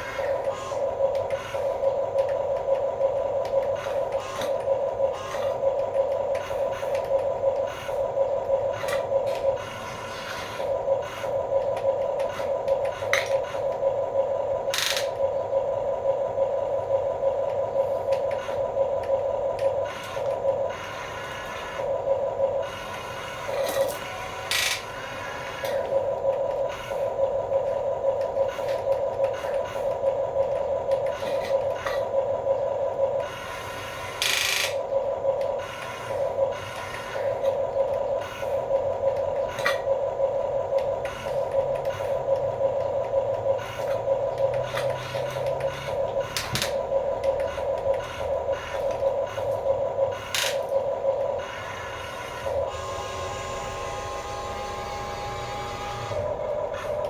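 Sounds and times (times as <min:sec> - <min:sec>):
toy electric motors whining: 0:00.0 - 0:57.0.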